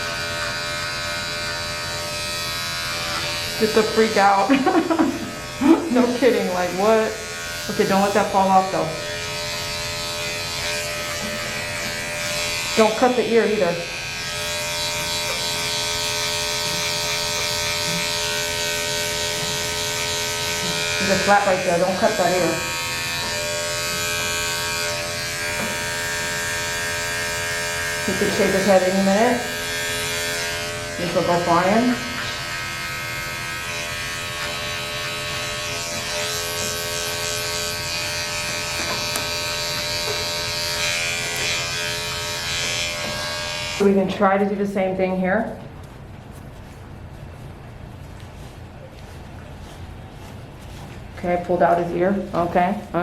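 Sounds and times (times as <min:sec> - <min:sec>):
electric clippers buzzing: 0:00.0 - 0:45.0.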